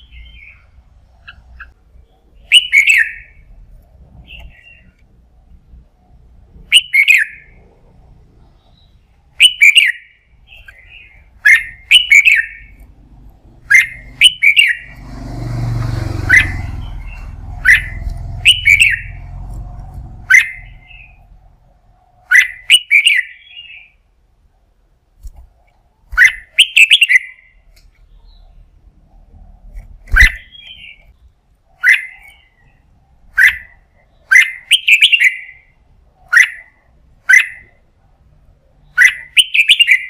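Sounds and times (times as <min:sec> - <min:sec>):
bird singing sharp phrases: 0:00.0 - 0:05.0, 0:06.0 - 0:15.0, 0:16.1 - 0:24.1, 0:26.0 - 0:37.8, 0:38.5 - 0:40.0.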